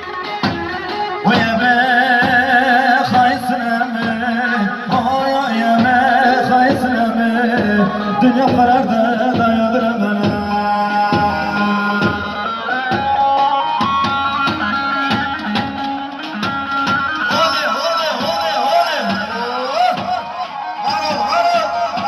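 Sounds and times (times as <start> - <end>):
ornamented folk melody: 0.0 - 22.0
steady drum beat: 0.0 - 22.0.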